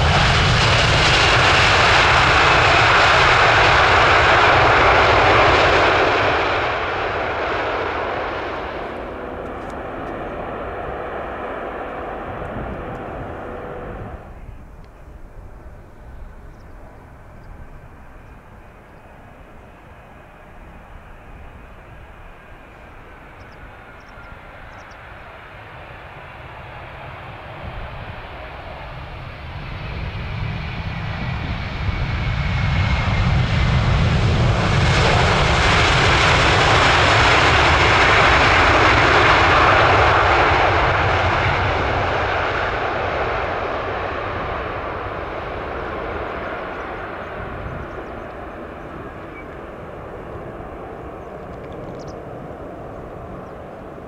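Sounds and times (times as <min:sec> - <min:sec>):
jet airliner engine noise: 0:00.0 - 0:54.0.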